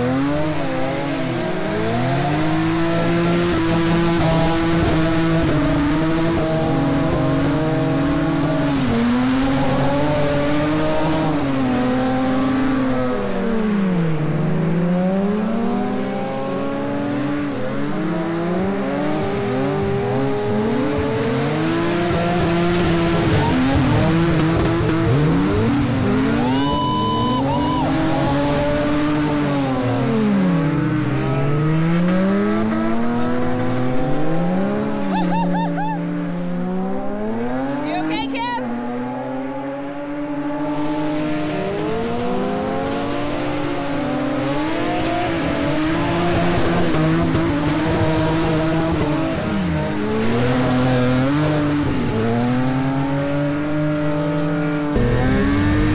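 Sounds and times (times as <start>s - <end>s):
car engines revving hard: 0.0s - 55.9s.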